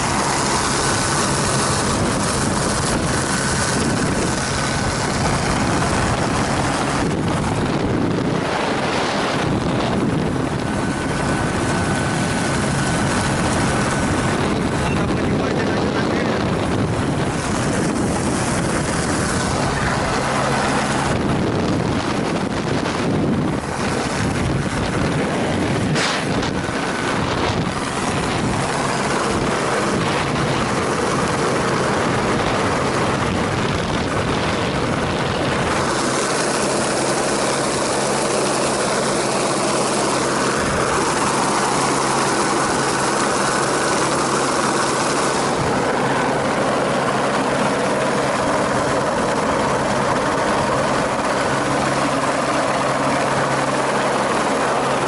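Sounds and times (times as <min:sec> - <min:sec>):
engine running: 0:00.0 - 0:55.0
loud even rushing noise: 0:00.0 - 0:55.0.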